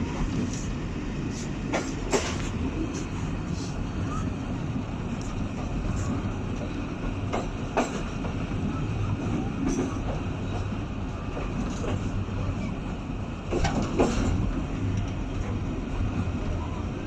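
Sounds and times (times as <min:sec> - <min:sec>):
train coach rolling rumble: 0:00.0 - 0:17.0.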